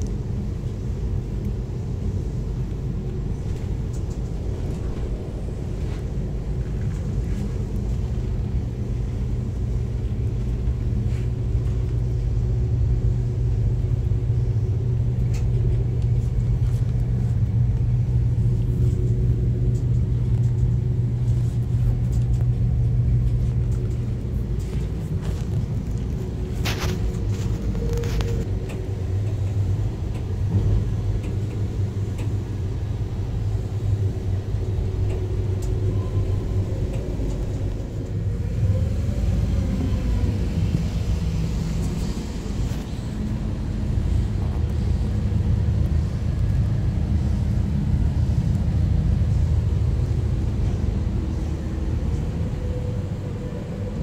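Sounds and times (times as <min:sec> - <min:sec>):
train rumble on board: 0:00.0 - 0:54.0.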